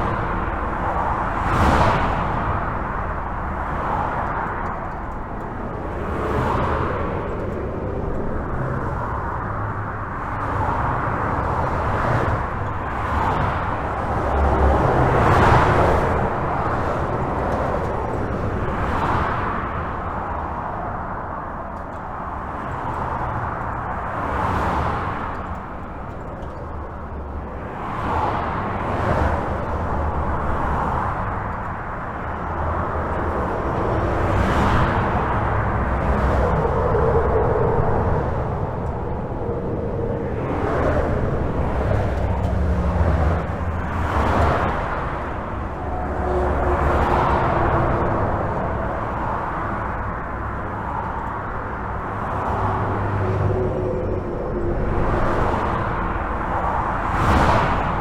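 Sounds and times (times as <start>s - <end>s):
cars whooshing past: 0.0s - 26.3s, 27.0s - 58.0s
highway traffic rumble: 0.0s - 58.0s.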